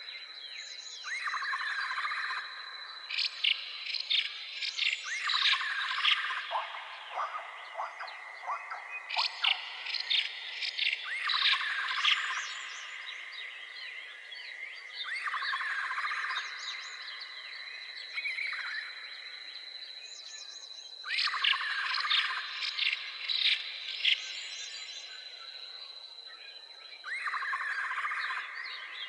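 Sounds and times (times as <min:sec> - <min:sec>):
birds chirping and trilling: 0:00.0 - 0:29.0.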